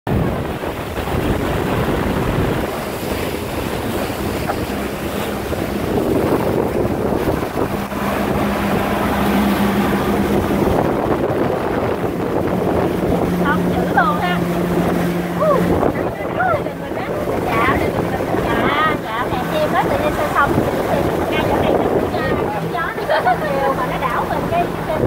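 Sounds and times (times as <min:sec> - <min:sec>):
boat motor humming: 0:00.0 - 0:25.0
water rushing past hull: 0:00.0 - 0:25.0
wind buffeting microphone: 0:00.1 - 0:25.0.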